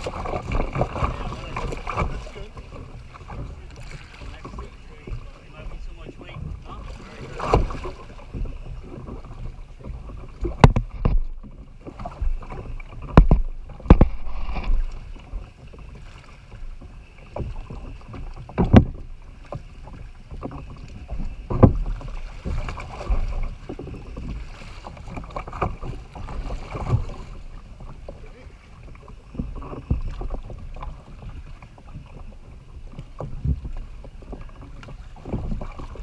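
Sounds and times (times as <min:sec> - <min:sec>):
kayak bumping against boat hull: 0:00.0 - 0:36.0.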